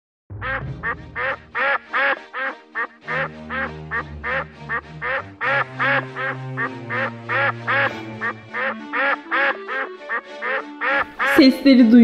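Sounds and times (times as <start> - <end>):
background music with low notes: 0.3 - 12.0
ducks quacking: 0.4 - 11.6.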